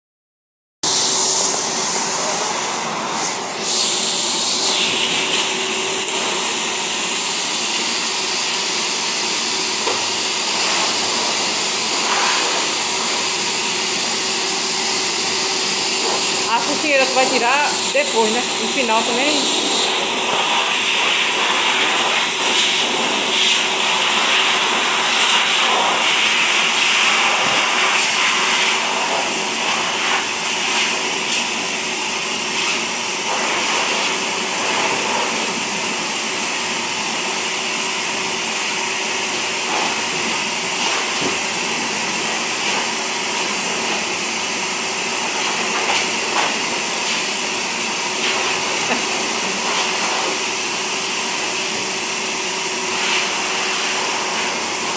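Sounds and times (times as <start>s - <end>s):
dryer blowing air: 0.8s - 54.9s.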